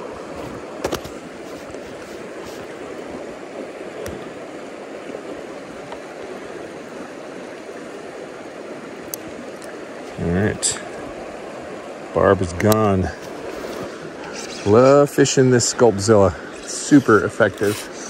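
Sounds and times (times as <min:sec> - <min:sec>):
stream running over rocks: 0:00.0 - 0:18.0.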